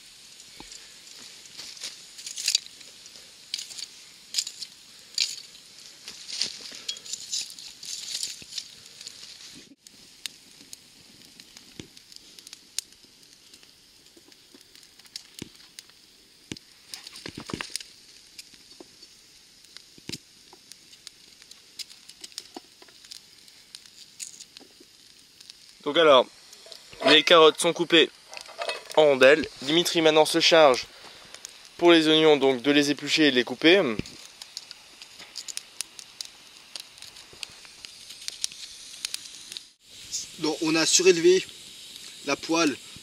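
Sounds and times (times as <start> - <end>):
campfire crackling and popping: 0.0 - 43.0
metal tongs raking embers: 0.2 - 43.0.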